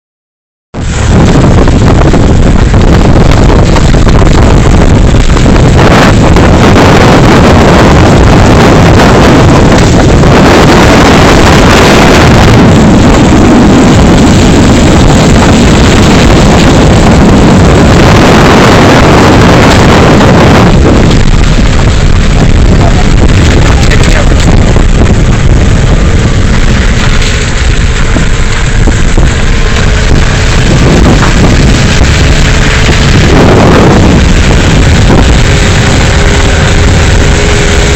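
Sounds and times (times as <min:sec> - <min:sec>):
vehicle engine and tyre noise: 0:00.7 - 0:37.9
wind buffeting microphone: 0:00.7 - 0:37.9.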